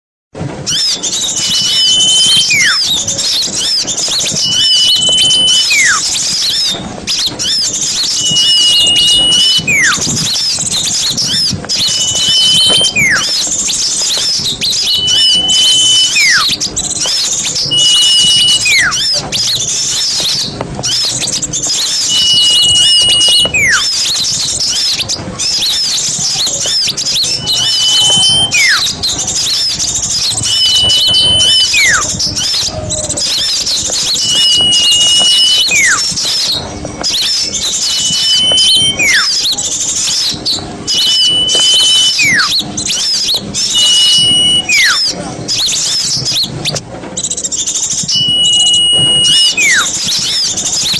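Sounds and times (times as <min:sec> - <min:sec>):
sliding whistle: 0:00.6 - 0:50.9
small birds chattering: 0:00.6 - 0:50.9.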